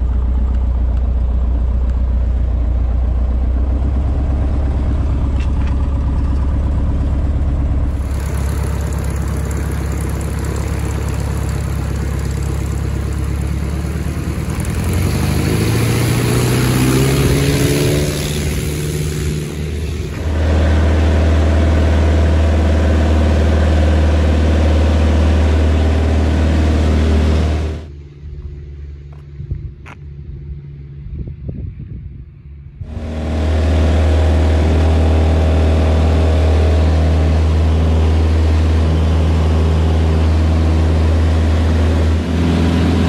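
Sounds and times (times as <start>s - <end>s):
propeller aircraft engine: 0.0s - 43.0s.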